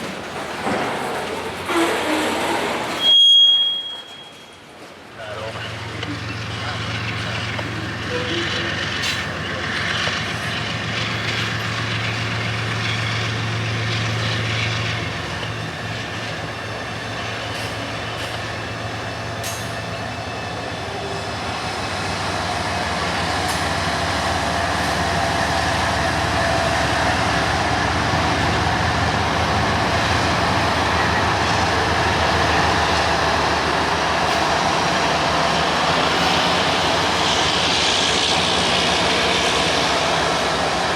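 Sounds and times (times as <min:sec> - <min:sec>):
diesel locomotive hum: 0:00.0 - 0:40.9
train rolling noise: 0:00.0 - 0:40.9.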